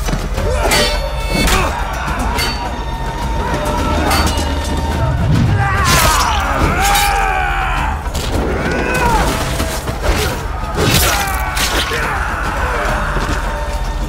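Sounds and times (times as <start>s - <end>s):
voices shouting and crying out: 0.3s - 14.0s.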